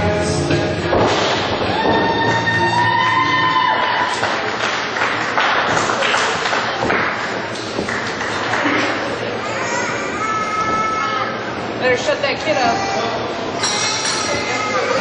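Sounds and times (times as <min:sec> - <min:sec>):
crowd noise: 0:00.0 - 0:15.0.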